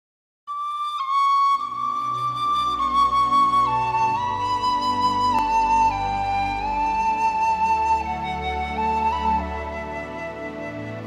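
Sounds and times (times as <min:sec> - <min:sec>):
flute playing slow melody: 0:00.5 - 0:11.0.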